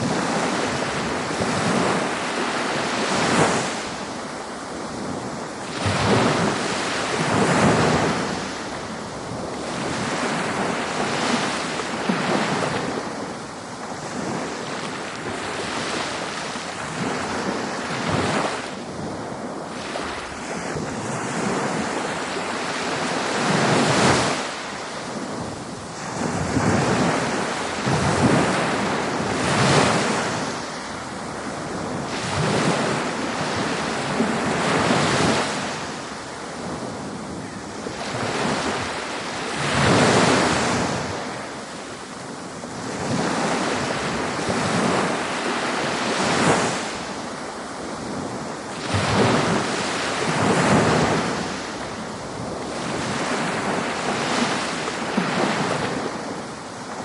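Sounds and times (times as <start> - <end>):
ocean surf breaking: 0.0 - 57.0
wind on microphone: 0.0 - 57.0.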